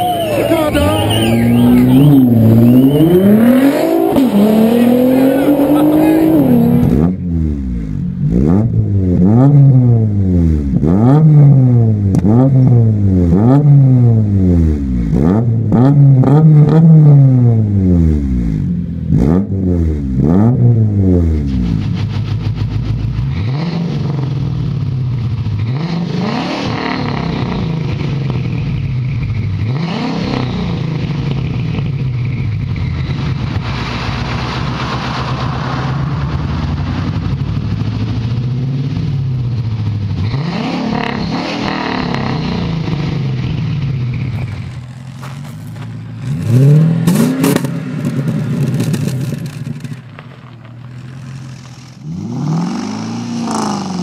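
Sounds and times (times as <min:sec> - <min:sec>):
car engine idling with throttle blips: 0:00.0 - 0:54.0
car engine revving: 0:00.0 - 0:54.0.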